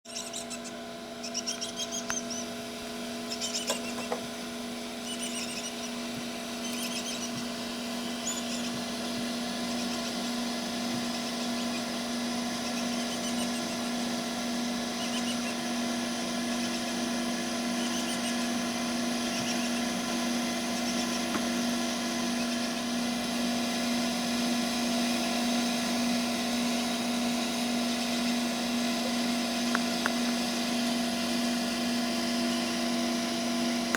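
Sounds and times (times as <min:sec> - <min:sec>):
incubator fan motor humming: 0:00.0 - 0:33.9.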